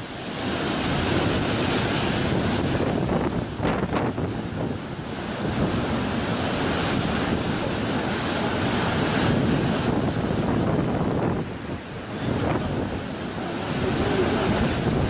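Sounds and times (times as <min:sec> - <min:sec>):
rough seas breaking: 0:00.0 - 0:15.0
wind buffeting microphone: 0:00.0 - 0:15.0.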